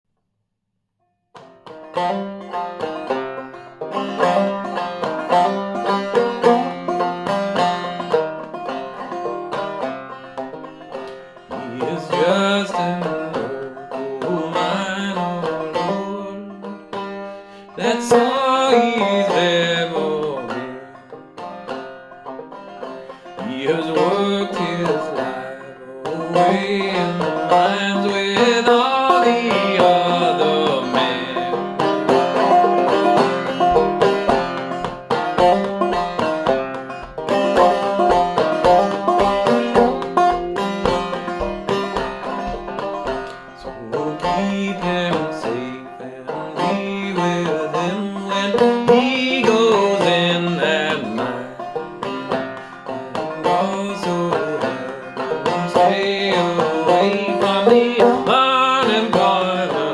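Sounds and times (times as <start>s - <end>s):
banjo notes and strums: 1.3s - 59.9s.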